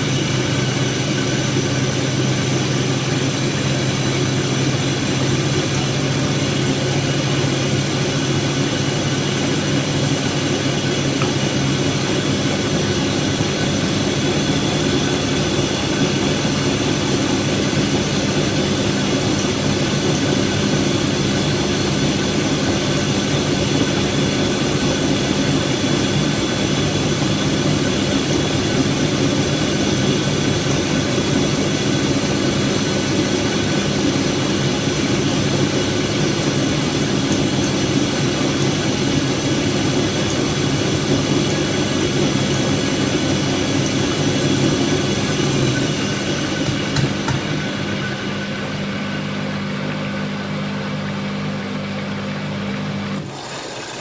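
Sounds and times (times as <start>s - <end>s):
water swishing in drum: 0.0s - 48.9s
washing machine motor hum: 0.0s - 54.0s.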